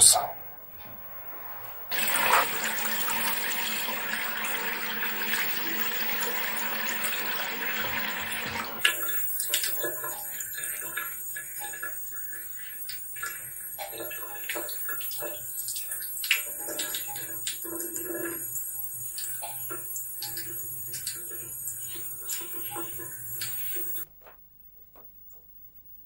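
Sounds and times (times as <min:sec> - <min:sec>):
water pouring: 0:01.9 - 0:24.1
water splashes and drips: 0:01.9 - 0:24.1.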